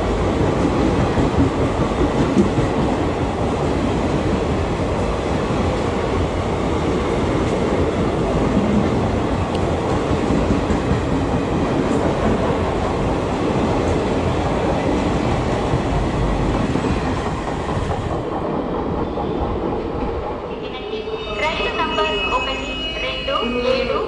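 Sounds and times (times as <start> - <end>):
train wheels rolling on track: 0.0 - 24.0.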